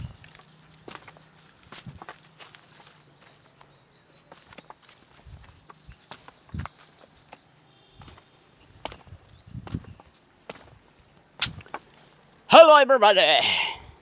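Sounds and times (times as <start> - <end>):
footsteps on outdoor path: 0.0 - 12.1
insects chirring: 0.0 - 14.0.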